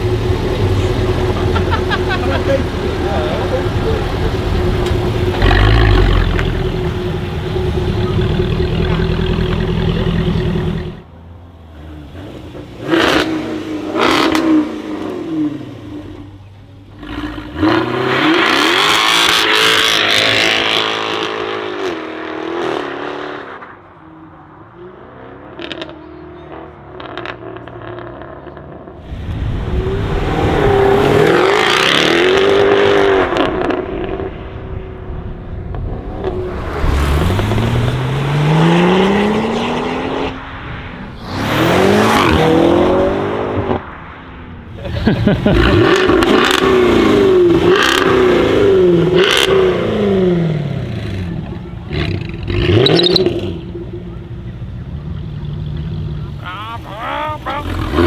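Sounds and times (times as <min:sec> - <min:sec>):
exhaust cracks on throttle blips: 0:00.0 - 0:22.0, 0:25.4 - 0:58.0
sports car exhaust: 0:00.0 - 0:22.0, 0:25.5 - 0:58.0.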